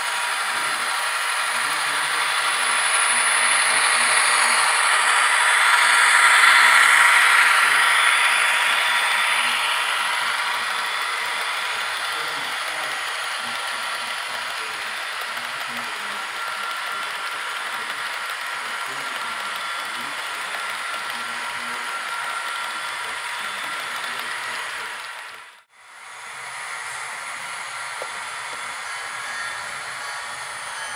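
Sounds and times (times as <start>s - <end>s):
model train wheels clattering: 0.0s - 25.5s.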